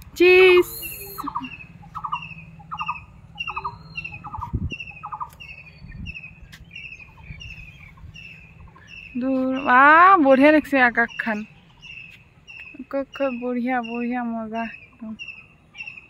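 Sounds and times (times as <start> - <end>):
high bird chirps: 0.2 - 16.0.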